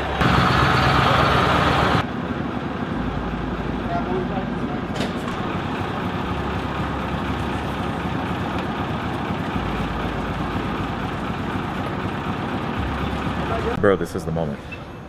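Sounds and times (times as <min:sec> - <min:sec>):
heavy vehicle engine idling: 0:00.0 - 0:13.8.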